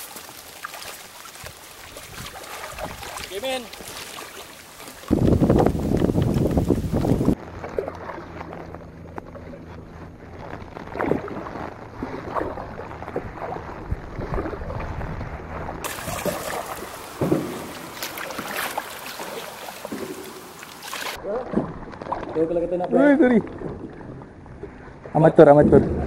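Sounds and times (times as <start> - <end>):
paddle strokes splashing water: 0.0 - 25.2
water and wind background: 0.0 - 26.0.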